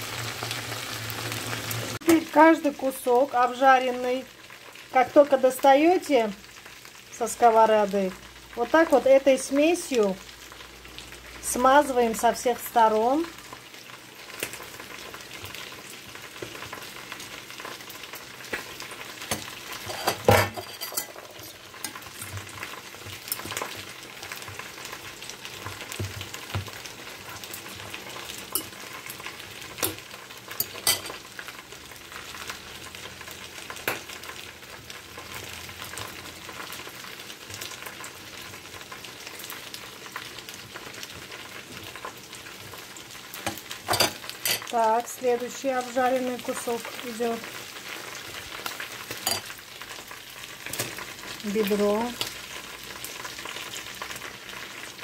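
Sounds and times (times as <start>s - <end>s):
chicken frying in oil: 0.0s - 55.0s.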